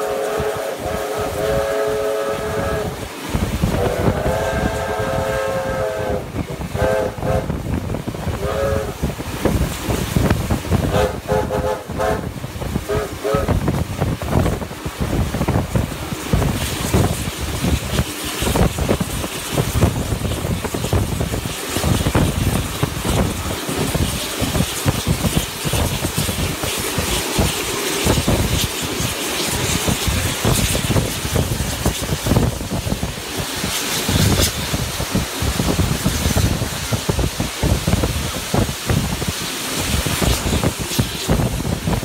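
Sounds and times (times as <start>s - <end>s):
train running noise: 0.0s - 42.0s
wind buffeting microphone: 0.0s - 42.0s.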